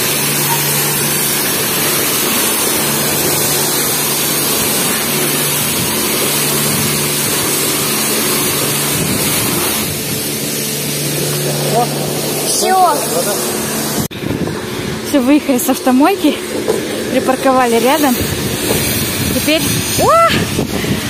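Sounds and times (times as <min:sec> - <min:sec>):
high-pressure water spray hissing: 0:00.0 - 0:21.0
low hum: 0:00.0 - 0:21.0.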